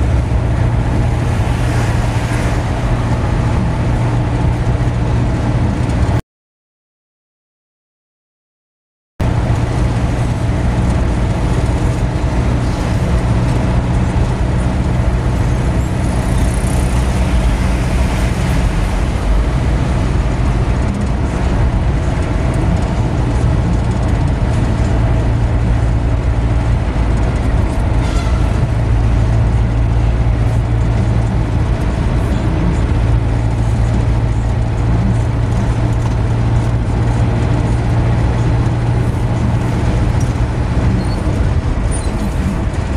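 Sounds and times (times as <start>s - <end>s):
car engine and tyre drone: 0.0s - 6.2s, 9.2s - 42.9s.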